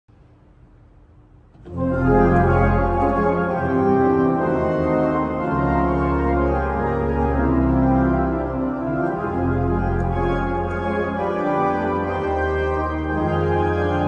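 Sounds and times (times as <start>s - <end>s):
pipe organ chords: 1.5s - 14.0s.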